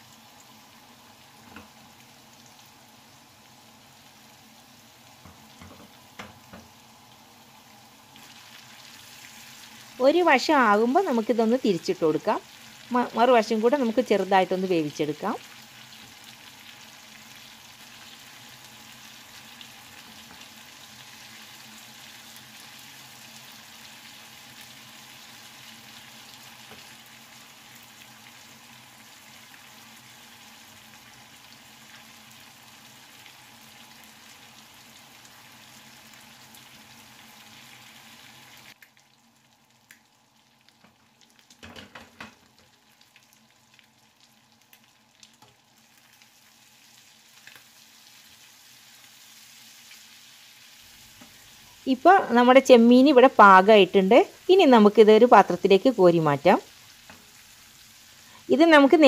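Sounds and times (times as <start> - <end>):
prawns sizzling in oil: 0.0 - 59.0.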